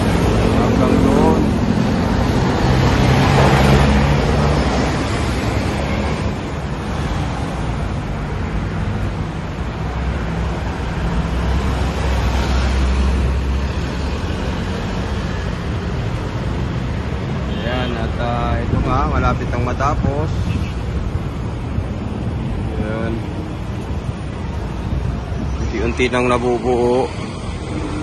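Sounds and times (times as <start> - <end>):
city road traffic: 0.0 - 28.0.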